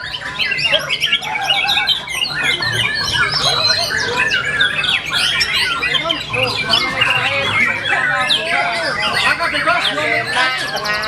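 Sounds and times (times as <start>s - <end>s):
bird singing: 0.0s - 11.0s.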